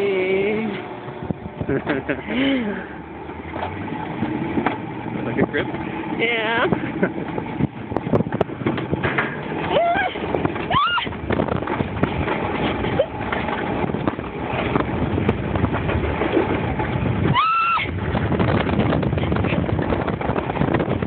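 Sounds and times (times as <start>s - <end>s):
sled wheels rumbling on rails: 0.0s - 21.0s.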